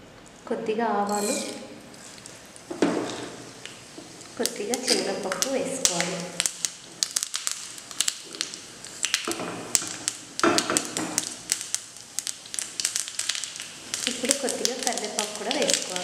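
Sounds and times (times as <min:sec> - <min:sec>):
seeds frying in hot oil: 0:01.9 - 0:16.0.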